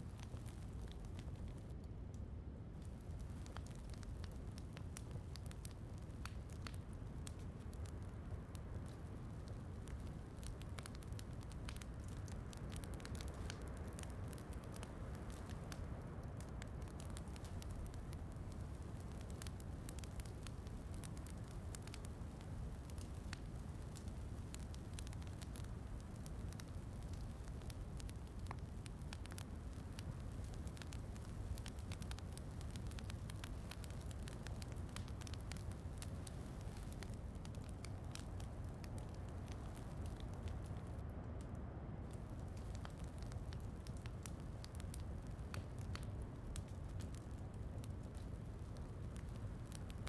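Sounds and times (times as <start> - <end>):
soft rain: 0.0 - 50.0
wood fire crackling: 0.0 - 50.0.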